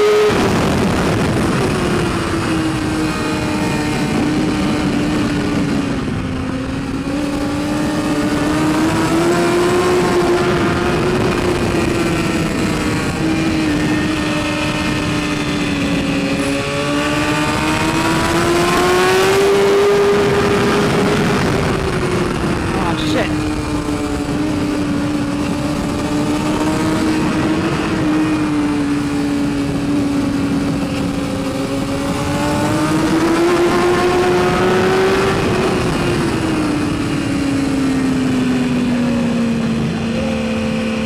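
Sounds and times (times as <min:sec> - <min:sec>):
motorcycle engine at high revs: 0:00.0 - 0:41.0
wind rush over microphone: 0:00.0 - 0:41.0.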